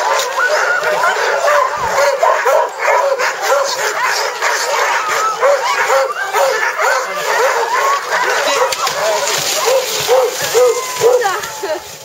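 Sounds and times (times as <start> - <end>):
dogs yelping and whining: 0.1 - 11.4.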